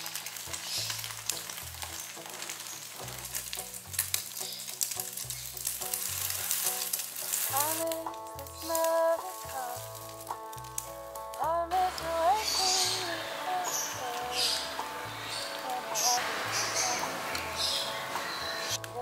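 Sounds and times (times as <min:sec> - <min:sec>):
background music with bass line: 0:00.0 - 0:19.0
egg sizzling in a frying pan: 0:00.0 - 0:19.0.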